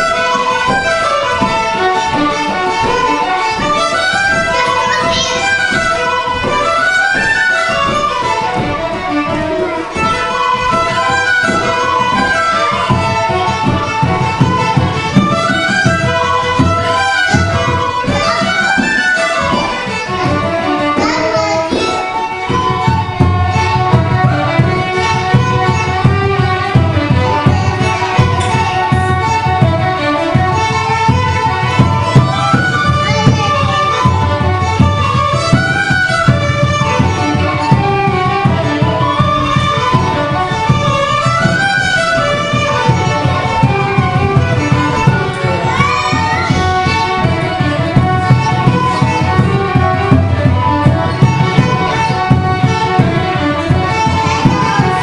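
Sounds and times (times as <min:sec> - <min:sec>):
fiddle playing a fast reel: 0:00.0 - 0:55.0
rhythmic accompaniment: 0:00.0 - 0:55.0.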